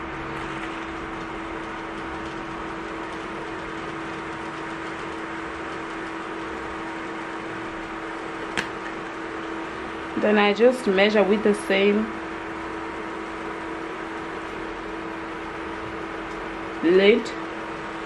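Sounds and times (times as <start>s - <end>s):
kitchen appliance humming: 0.0s - 18.0s.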